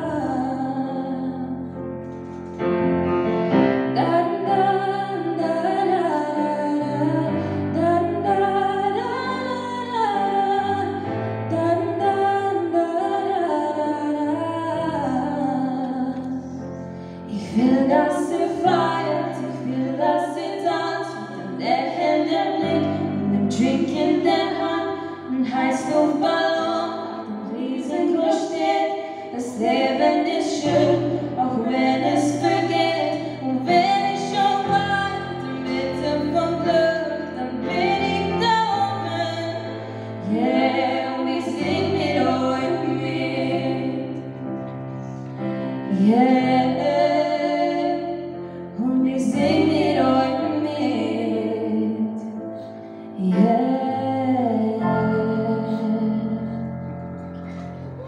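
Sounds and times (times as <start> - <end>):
woman singing: 0.0 - 1.7, 4.0 - 16.6, 17.3 - 39.6, 40.2 - 44.1, 45.9 - 52.4, 53.2 - 56.6
piano accompaniment: 0.0 - 58.0.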